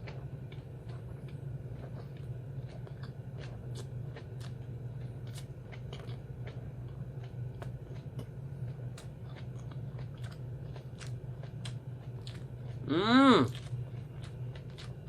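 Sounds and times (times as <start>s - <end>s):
chewing with crunches: 0.0s - 15.0s
low steady hum: 0.0s - 15.0s.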